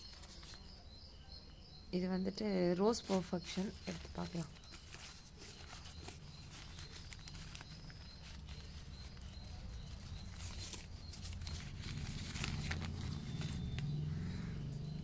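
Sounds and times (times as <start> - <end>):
paper packets rustling and crinkling: 0.0 - 0.8, 2.5 - 14.2.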